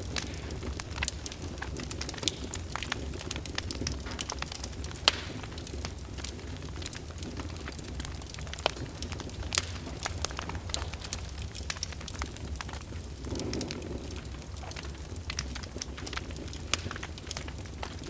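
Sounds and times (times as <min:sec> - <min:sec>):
fireplace fire crackling: 0:00.0 - 0:18.0
low rumble of flames: 0:00.0 - 0:18.0.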